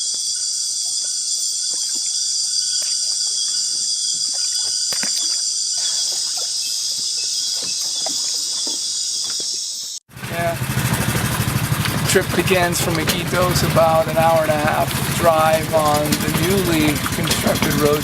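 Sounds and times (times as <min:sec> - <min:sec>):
high-pitched insect chorus: 0:00.0 - 0:10.5, 0:12.0 - 0:18.0.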